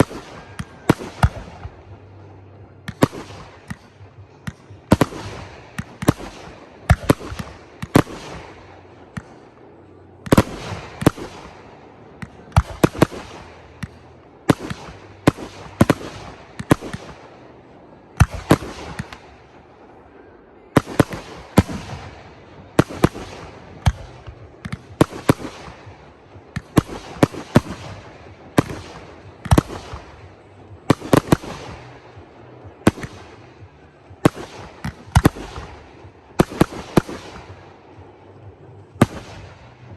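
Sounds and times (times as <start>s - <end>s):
fireworks bangs: 0.0s - 39.9s
fireworks crackle: 0.0s - 39.9s.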